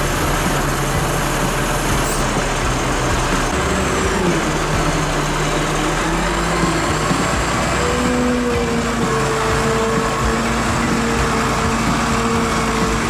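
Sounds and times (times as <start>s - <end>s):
large engine running: 0.0s - 13.0s
steady higher tones: 0.0s - 13.0s.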